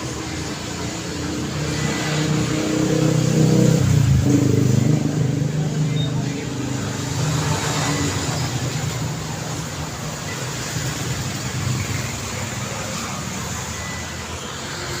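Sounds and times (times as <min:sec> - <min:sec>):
highway traffic: 0:00.0 - 0:15.0.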